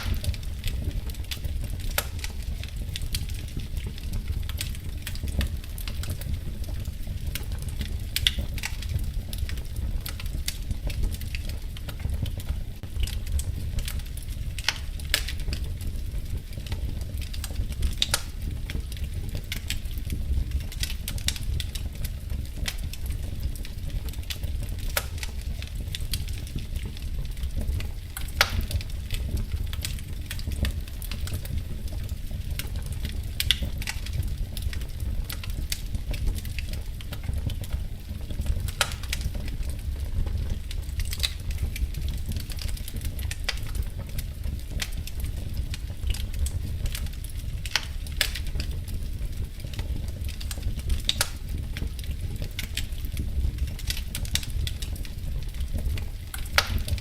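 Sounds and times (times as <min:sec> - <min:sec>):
sharp pops and snaps: 0:00.0 - 0:57.0
wood fire crackling: 0:00.0 - 0:57.0.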